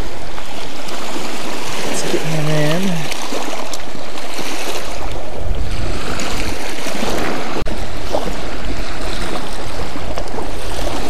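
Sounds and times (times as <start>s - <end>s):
small waves lapping on rocks: 0.0s - 11.0s
wind rumbling on microphone: 0.0s - 11.0s.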